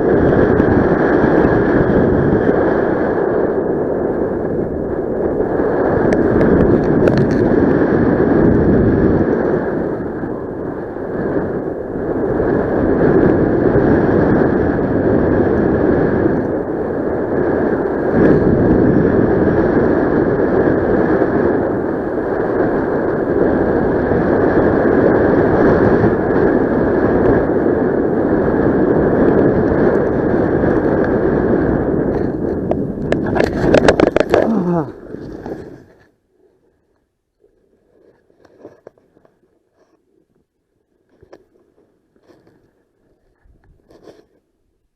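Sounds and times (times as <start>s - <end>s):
wind rushing over microphone: 0.0s - 40.5s, 41.1s - 44.9s.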